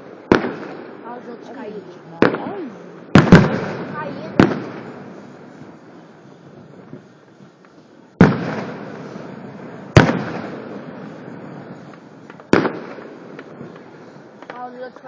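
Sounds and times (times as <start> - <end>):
fireworks bursting with crackle: 0.0 - 15.0.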